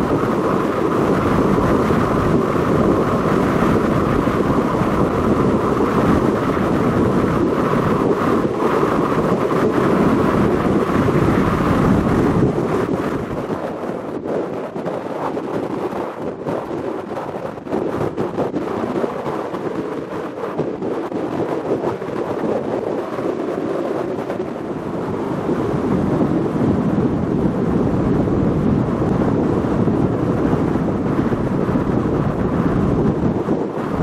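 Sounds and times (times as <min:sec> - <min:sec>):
boat and water rushing rumble: 0:00.0 - 0:34.0
wind buffeting microphone: 0:00.0 - 0:34.0.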